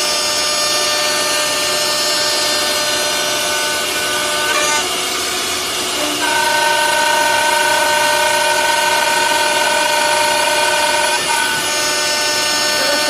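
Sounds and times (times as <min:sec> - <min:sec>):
machine spindle whining: 0:00.0 - 0:13.0.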